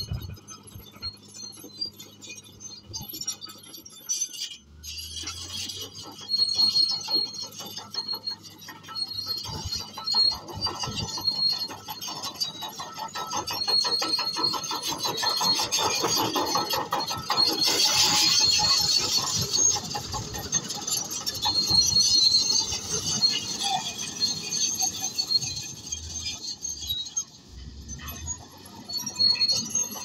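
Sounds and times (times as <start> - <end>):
bulldozer tracks clanking and squealing: 0.0 - 30.0.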